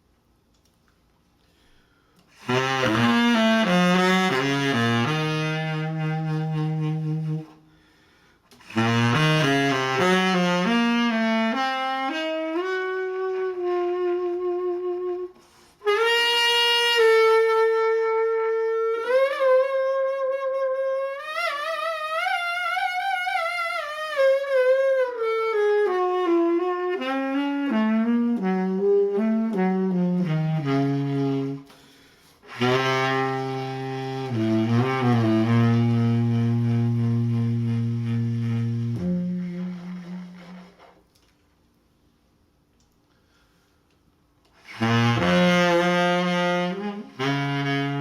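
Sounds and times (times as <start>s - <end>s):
solo saxophone melody: 1.5s - 41.3s, 43.1s - 48.0s.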